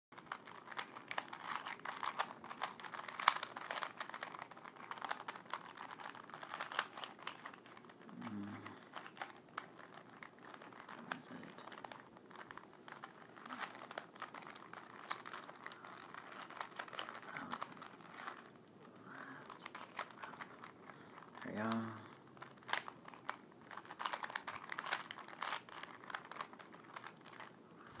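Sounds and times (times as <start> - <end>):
plastic puzzle cube clicking: 0.2 - 27.6.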